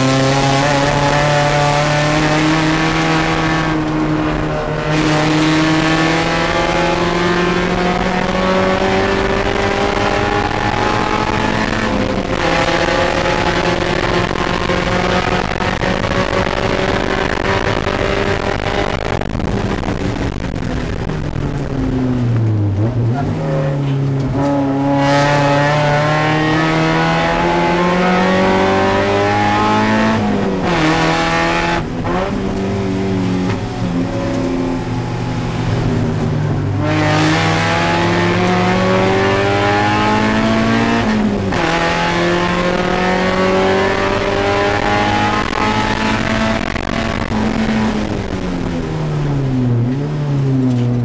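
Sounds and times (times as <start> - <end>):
race car engine accelerating: 0.0 - 51.0.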